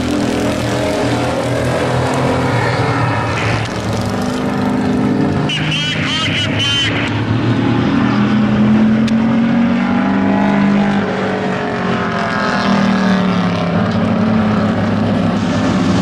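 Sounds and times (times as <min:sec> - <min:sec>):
racing truck engines passing: 0:00.0 - 0:16.0.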